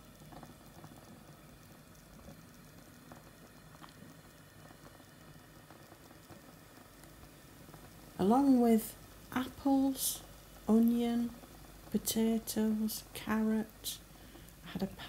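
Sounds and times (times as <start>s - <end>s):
liquid bubbling softly: 0.0s - 15.0s.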